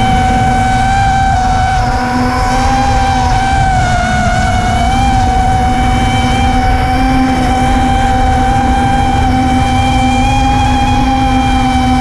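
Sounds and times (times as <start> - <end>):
drone motors whining: 0.0 - 12.0
low rushing noise: 0.0 - 12.0.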